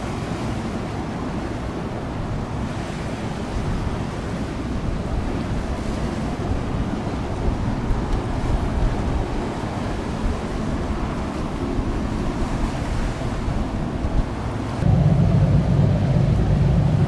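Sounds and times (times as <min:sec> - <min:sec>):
choppy sea rushing: 0:00.0 - 0:17.0
wind buffeting microphone: 0:00.0 - 0:17.0.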